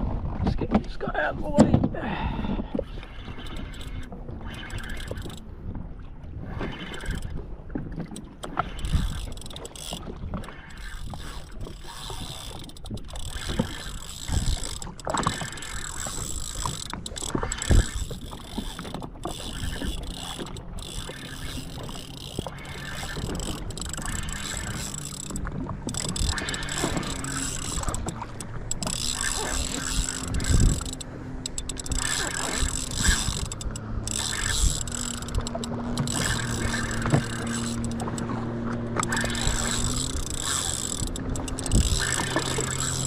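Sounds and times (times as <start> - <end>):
water slapping against hull: 0.0 - 43.0
wind on microphone: 0.0 - 43.0
fishing gear knocking and clicking: 3.3 - 5.5, 6.7 - 43.0.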